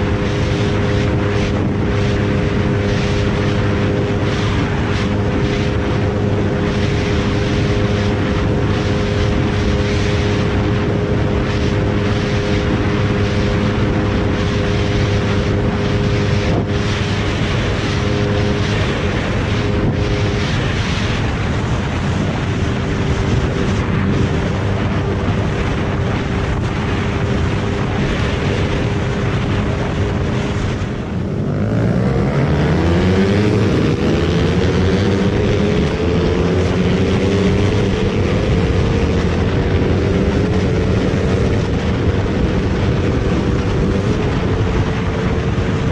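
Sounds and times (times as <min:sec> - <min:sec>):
motorcycle engine running hard: 0:00.0 - 0:45.9
wind rush: 0:00.0 - 0:45.9.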